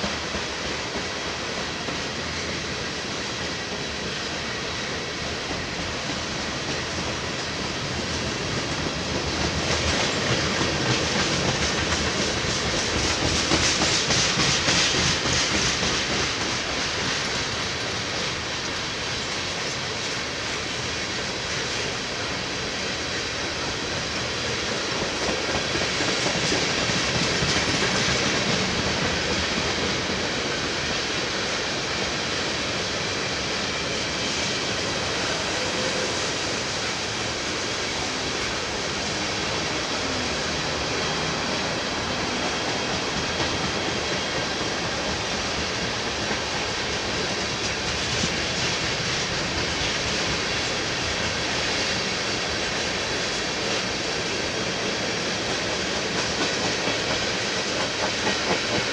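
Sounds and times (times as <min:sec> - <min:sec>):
train cars rumbling and hissing: 0:00.0 - 0:58.9.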